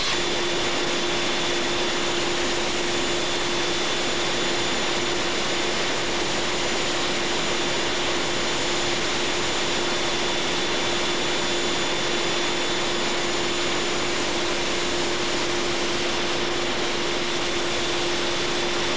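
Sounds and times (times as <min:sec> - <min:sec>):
high steady whines: 0:00.0 - 0:18.9.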